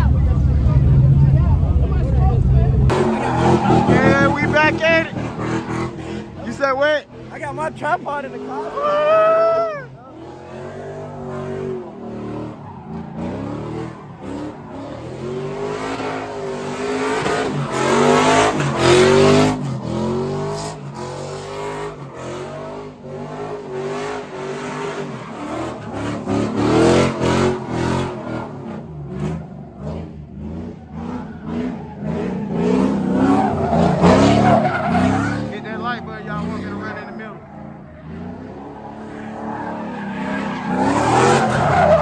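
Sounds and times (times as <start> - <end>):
tire screech: 0.0 - 42.0
car engine revving hard: 2.9 - 8.9, 10.1 - 42.0.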